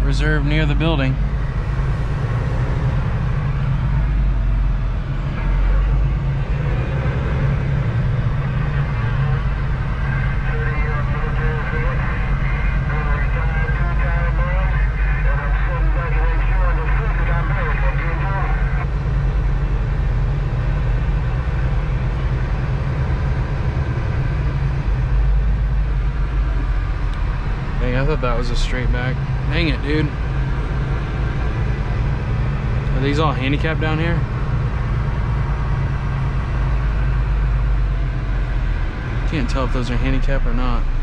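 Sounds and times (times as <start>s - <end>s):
truck diesel engine droning: 0.0s - 41.0s.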